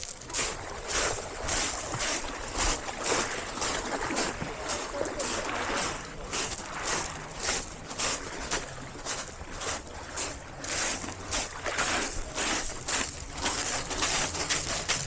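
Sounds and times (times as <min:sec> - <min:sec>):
sea waves: 0:00.0 - 0:15.0.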